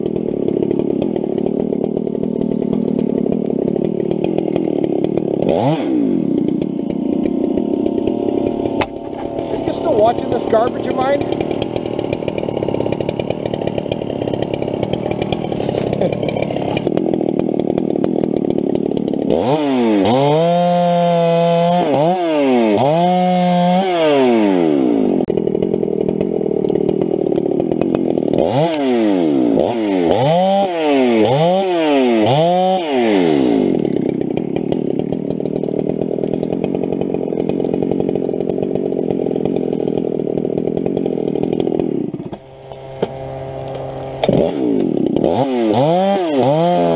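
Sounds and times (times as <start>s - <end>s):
chainsaw engine revving: 0.0s - 46.9s.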